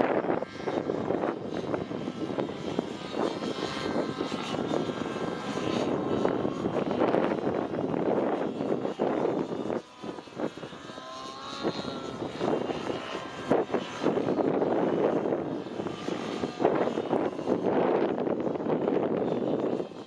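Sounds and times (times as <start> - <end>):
rc helicopter engine and rotors: 0.0 - 20.0.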